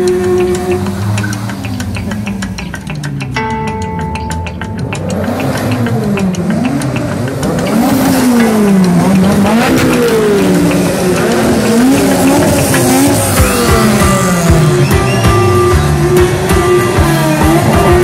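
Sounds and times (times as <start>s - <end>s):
car engines revving past: 0.0s - 3.3s, 4.4s - 18.0s.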